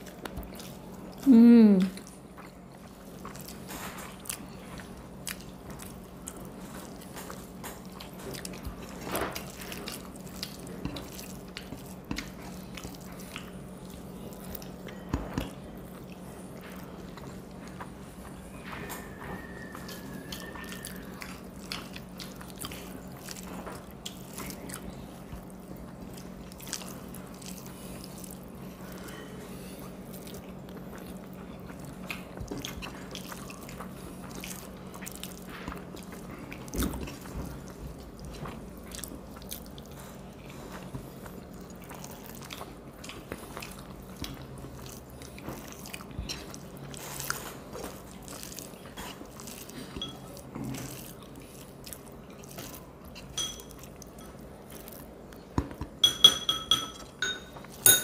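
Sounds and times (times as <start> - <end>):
chewing and lip smacks: 0.0 - 1.3, 1.9 - 55.6
steady low hum: 0.0 - 58.0.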